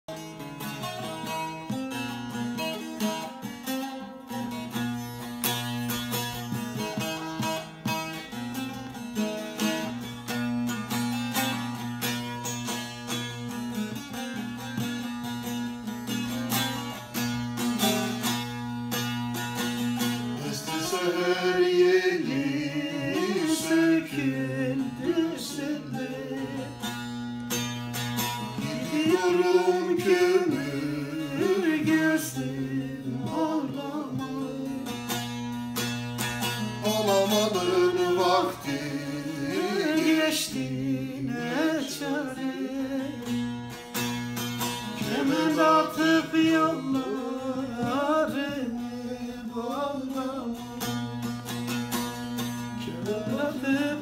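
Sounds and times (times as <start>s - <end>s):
plucked lute melody over drone: 0.1s - 54.0s
man singing folk song: 0.2s - 54.0s.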